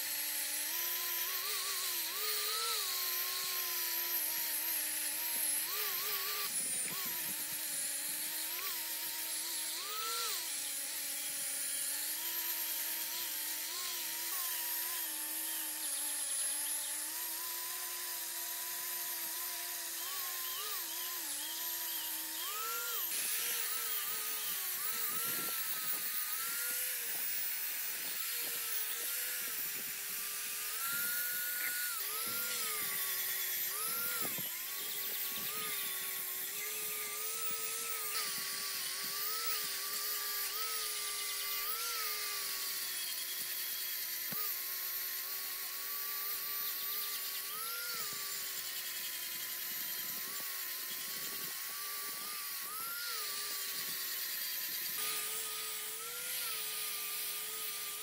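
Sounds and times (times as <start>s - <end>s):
angle grinder motor whine: 0.0s - 58.0s.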